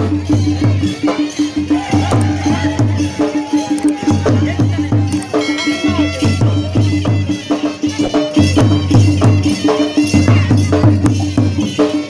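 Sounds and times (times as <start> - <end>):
folk melody: 0.0 - 12.0
quick steady drum beat: 0.0 - 12.0.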